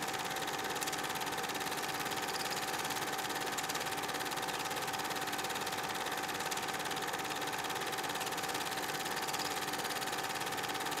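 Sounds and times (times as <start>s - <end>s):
film projector running: 0.0s - 11.0s.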